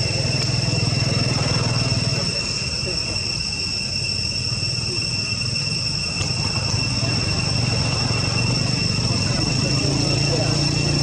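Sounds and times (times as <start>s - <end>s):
constant low rumble: 0.0s - 11.0s
high insect whine: 0.0s - 11.0s.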